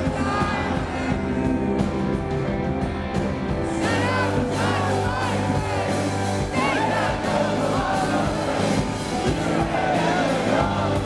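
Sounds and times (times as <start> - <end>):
male lead vocal: 0.0 - 2.1, 3.6 - 11.0
live rock band playing: 0.0 - 11.0.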